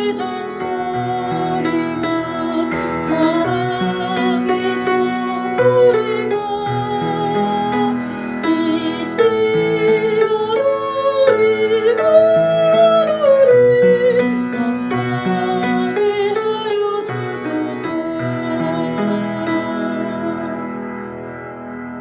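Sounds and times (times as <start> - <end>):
piano accompaniment: 0.0 - 22.0.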